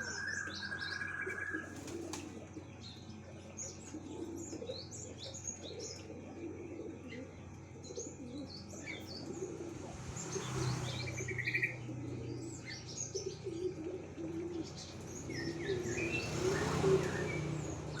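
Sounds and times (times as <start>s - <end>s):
bird chirps and trills: 0.0s - 18.0s
low repeated cooing: 0.0s - 18.0s.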